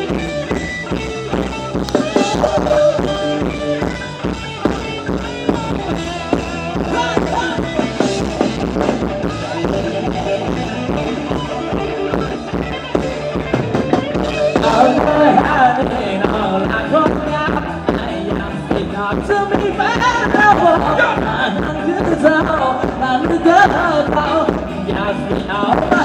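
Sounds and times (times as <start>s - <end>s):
drum kit beat: 0.0s - 26.0s
live dance band playing: 0.0s - 26.0s.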